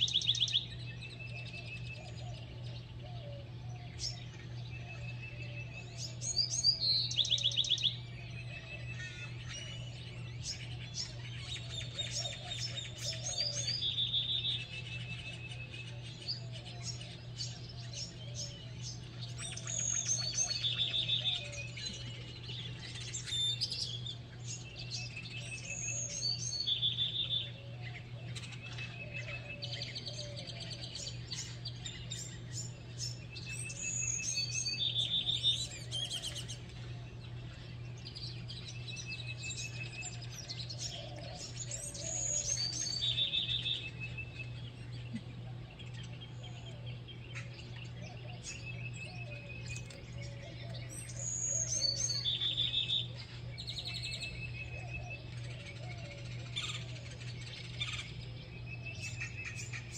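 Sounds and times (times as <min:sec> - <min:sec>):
songbirds singing and chirping: 0:00.0 - 0:59.9
steady low hum: 0:00.0 - 0:59.9.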